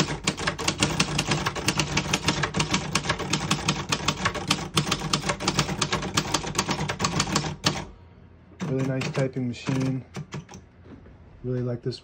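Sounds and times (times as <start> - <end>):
manual typewriter keys clacking: 0.0 - 7.9, 8.6 - 10.6.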